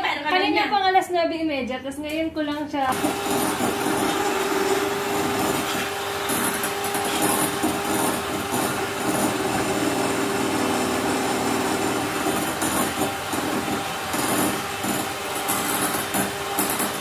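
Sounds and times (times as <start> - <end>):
beaters whirring in bowl: 2.9 - 17.0
electric hand mixers whining: 2.9 - 17.0.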